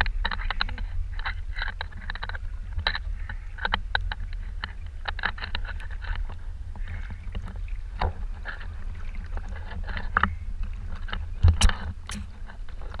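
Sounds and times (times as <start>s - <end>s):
constant low rumble: 0.0s - 13.0s
sea water sloshing and splashing: 0.0s - 13.0s.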